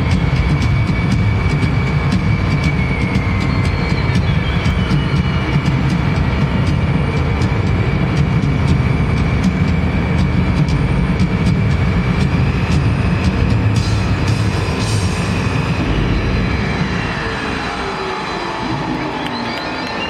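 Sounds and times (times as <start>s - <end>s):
amplified bass rumble: 0.0s - 17.9s.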